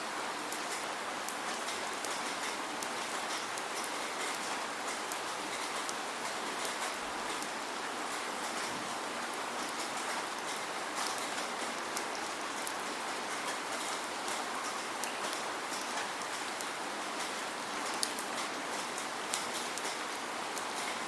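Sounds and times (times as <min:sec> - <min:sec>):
steady rain hiss: 0:00.0 - 0:21.0
raindrops ticking on a surface: 0:00.1 - 0:21.0.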